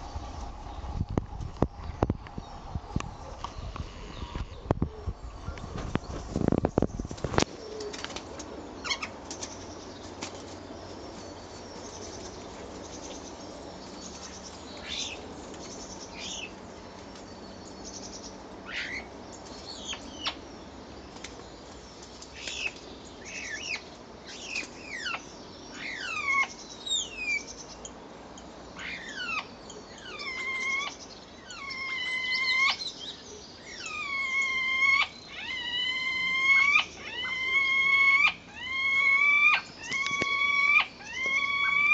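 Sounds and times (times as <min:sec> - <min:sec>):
starlings calling: 0:00.0 - 0:41.9.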